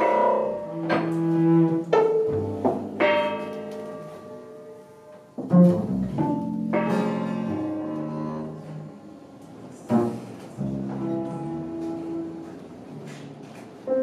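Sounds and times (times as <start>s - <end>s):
bowed cello and double bass: 0.0s - 3.8s, 5.4s - 13.5s.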